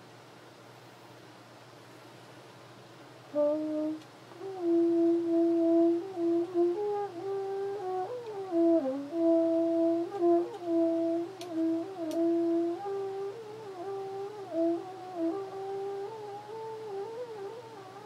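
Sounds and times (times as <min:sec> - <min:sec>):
french horn playing softly: 0:03.3 - 0:18.0.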